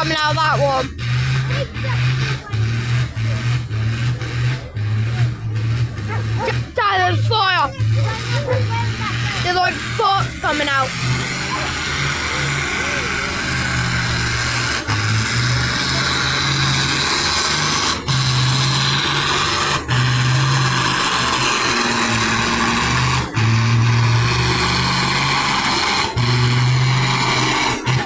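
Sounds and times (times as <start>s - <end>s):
tractor engine running under load: 0.0s - 28.0s.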